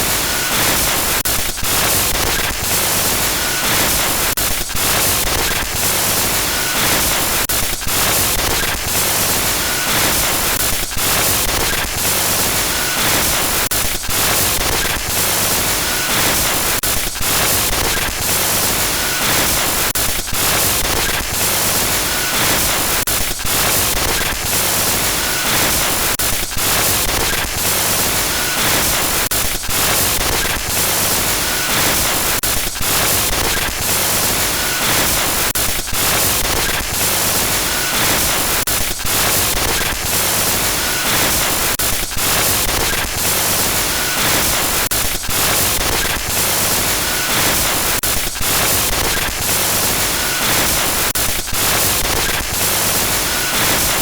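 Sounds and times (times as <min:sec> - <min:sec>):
harsh stuttering static hiss: 0:00.0 - 0:54.0.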